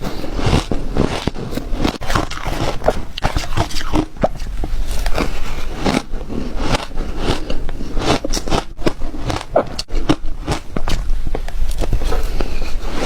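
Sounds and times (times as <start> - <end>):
crunching ice chewing: 0.0 - 12.5.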